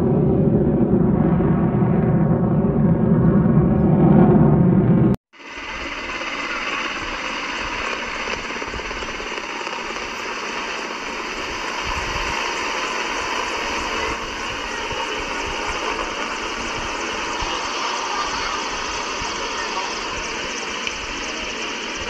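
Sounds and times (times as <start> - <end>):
helicopters flying overhead: 0.0 - 22.0.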